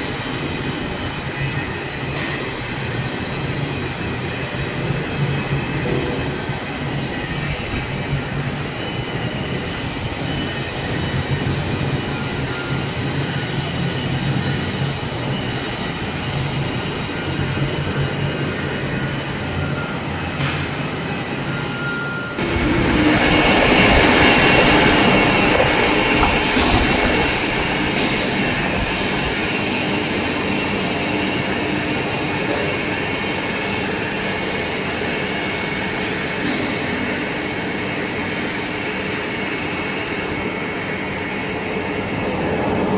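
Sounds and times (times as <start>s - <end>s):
lathe cutting with squealing drone: 0.2s - 36.4s.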